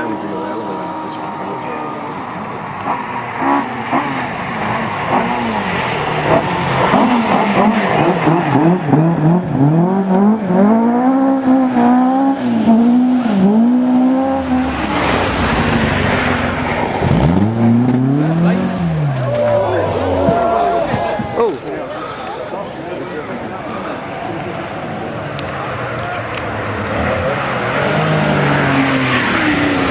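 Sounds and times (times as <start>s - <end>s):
rally car engine revving: 0.0s - 21.0s, 24.7s - 29.9s.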